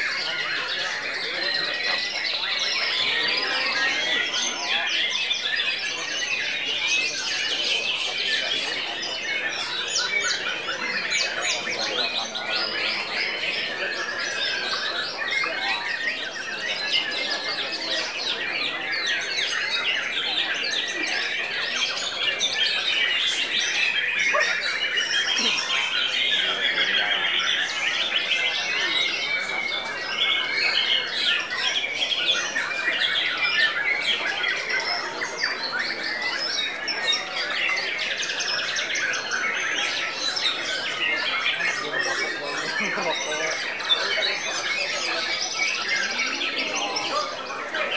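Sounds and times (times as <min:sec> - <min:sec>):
birds singing whistled notes: 0:00.0 - 0:47.9.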